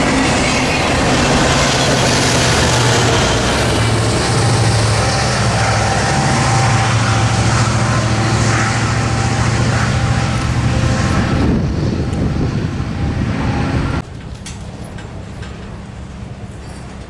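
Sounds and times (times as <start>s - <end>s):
train rumbling on rails: 0.0s - 14.1s.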